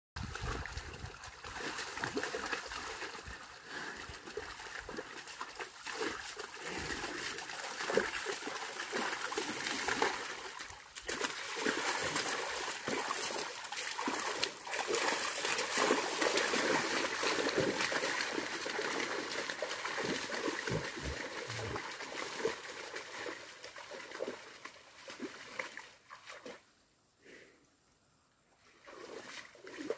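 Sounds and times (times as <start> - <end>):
muddy water splashing and sloshing: 0.2 - 26.8, 28.6 - 29.9.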